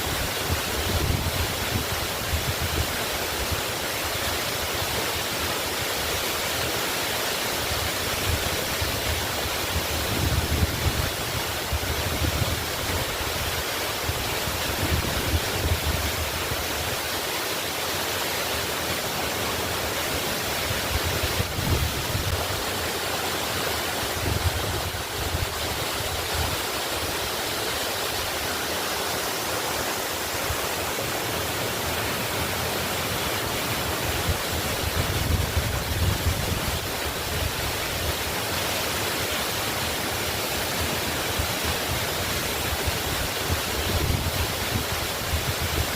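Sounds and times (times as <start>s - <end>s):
waterfall roaring: 0.0s - 45.9s.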